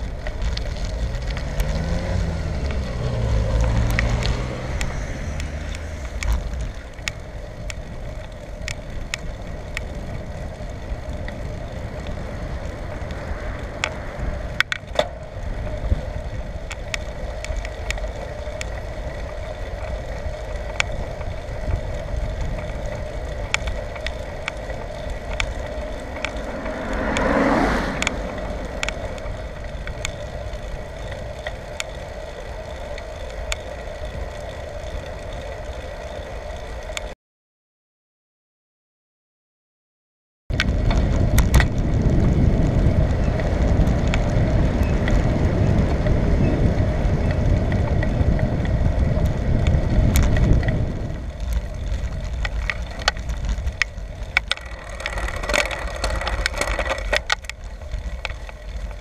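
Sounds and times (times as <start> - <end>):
bicycle tyre and wind noise: 0.0 - 37.2, 40.5 - 59.0
small clicks and rattles: 0.0 - 37.2, 40.5 - 59.0.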